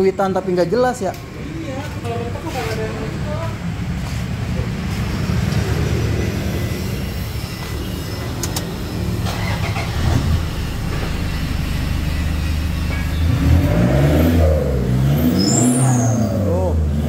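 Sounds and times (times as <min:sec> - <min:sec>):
diesel engine running and revving: 0:01.8 - 0:17.0.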